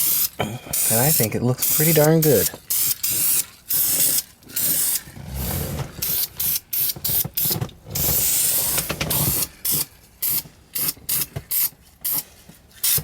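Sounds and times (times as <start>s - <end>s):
aerosol spray can hissing: 0.0s - 5.0s, 6.0s - 12.2s.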